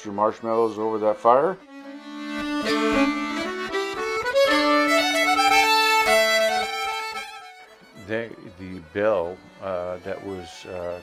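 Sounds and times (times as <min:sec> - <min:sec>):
slow violin melody: 0:00.0 - 0:11.0.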